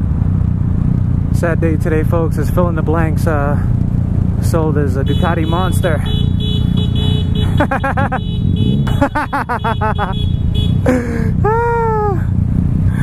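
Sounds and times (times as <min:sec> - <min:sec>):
motorcycle engine and wind rumble: 0:00.0 - 0:13.0.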